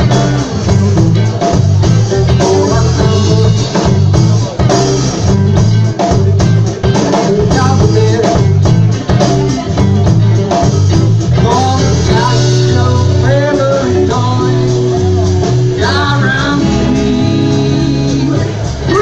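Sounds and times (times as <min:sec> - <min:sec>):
bass line: 0:00.0 - 0:19.0
electric guitar: 0:00.0 - 0:19.0.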